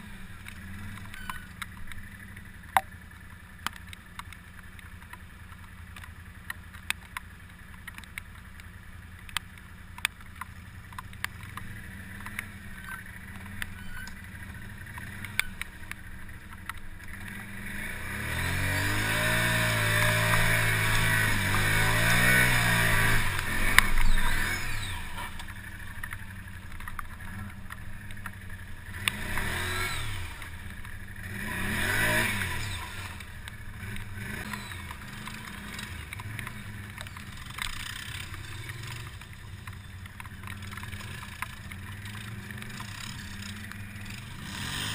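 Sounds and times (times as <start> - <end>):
atv engine idling and revving: 0.0 - 44.9.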